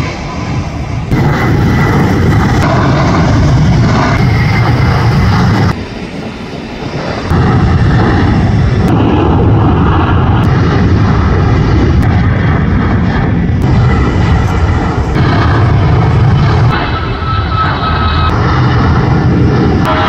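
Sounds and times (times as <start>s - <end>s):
jet airliner takeoff roar: 0.0s - 20.0s.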